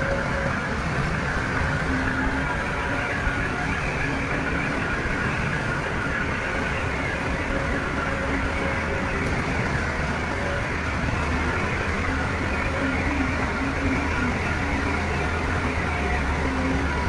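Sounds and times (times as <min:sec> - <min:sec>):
heavy machinery engine running: 0:00.0 - 0:17.0.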